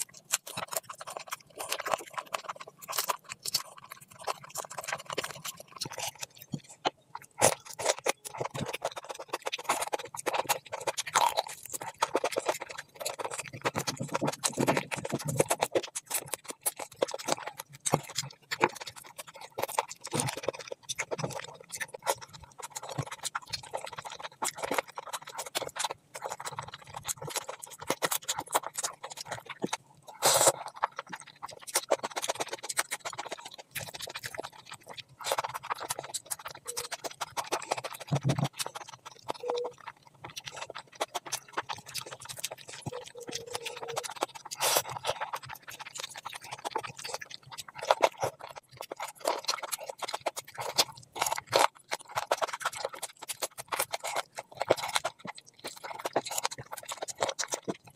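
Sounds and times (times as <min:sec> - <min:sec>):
person chewing: 0:00.0 - 0:57.9
sucking on a bone: 0:00.0 - 0:57.9
wet squishing of food: 0:00.0 - 0:57.9.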